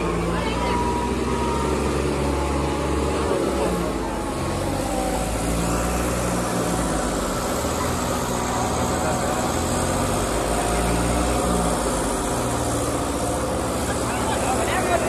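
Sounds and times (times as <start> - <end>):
crowd voices: 0.0 - 15.0
tractor diesel engines running: 0.0 - 15.0.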